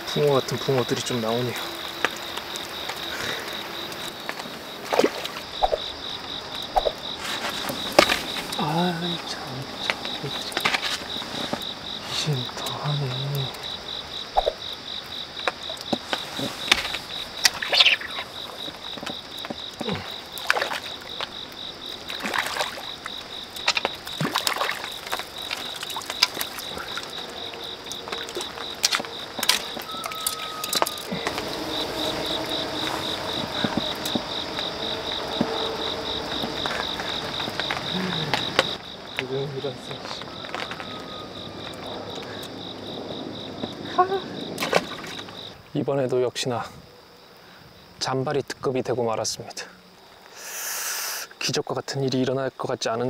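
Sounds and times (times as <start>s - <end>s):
crickets trilling: 0.0s - 53.0s
frogs croaking: 0.0s - 53.0s.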